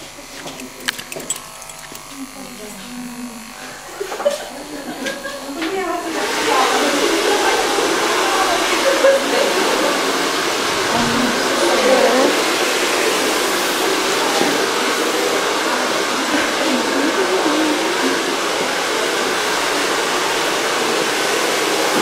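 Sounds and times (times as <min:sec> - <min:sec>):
faint voices: 0:00.0 - 0:19.9
hair dryer running: 0:00.0 - 0:22.0.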